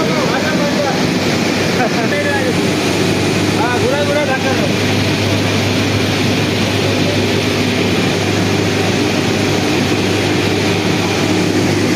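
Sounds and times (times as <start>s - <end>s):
air compressor droning: 0.0s - 11.9s.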